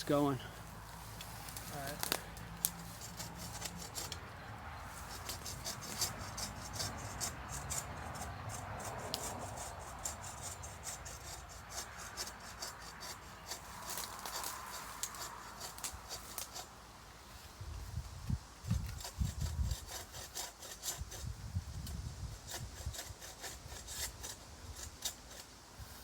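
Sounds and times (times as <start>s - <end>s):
saw cutting wood: 2.0s - 4.2s, 4.9s - 16.7s, 18.7s - 25.5s.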